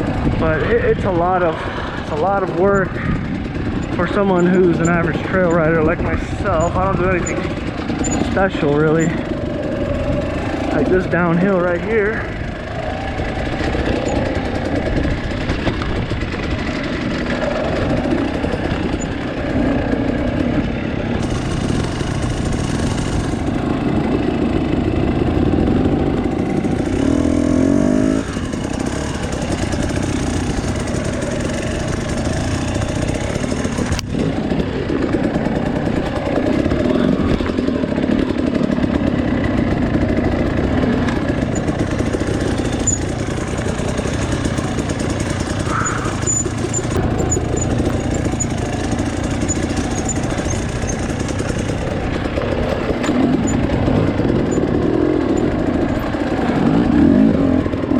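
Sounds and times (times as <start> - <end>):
two-stroke dirt bike engine: 0.0 - 57.9.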